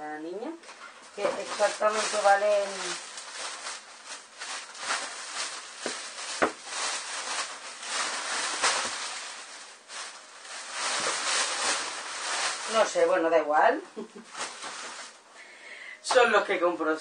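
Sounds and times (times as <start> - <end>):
plastic bag rustling: 0.7 - 15.3.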